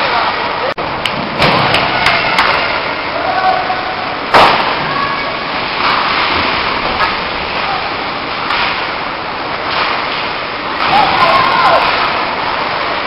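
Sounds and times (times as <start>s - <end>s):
ice hockey arena noise: 0.0s - 13.0s.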